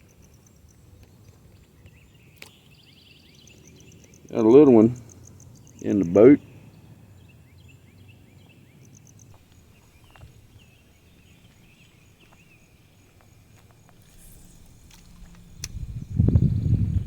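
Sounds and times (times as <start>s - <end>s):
faint chirps: 0.0s - 17.0s.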